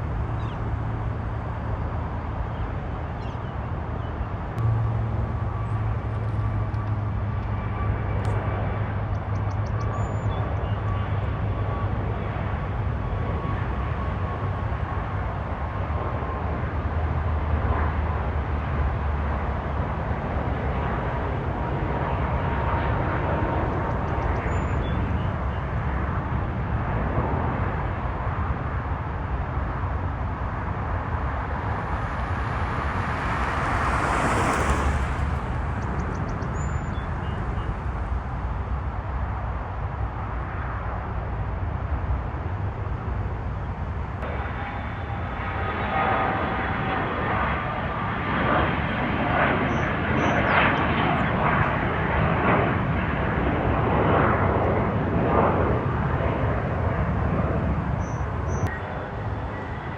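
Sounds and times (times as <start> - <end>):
aircraft engine rumble: 0.0 - 59.9.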